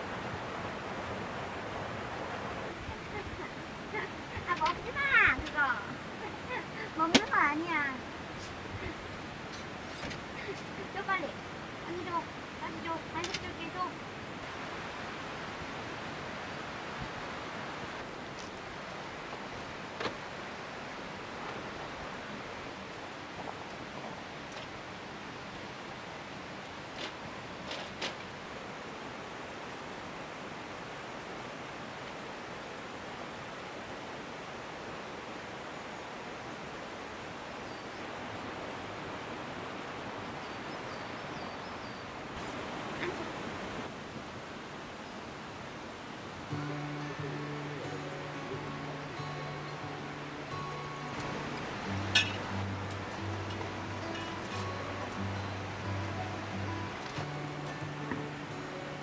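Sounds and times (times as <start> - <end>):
steady outdoor rushing noise: 0.0 - 59.0.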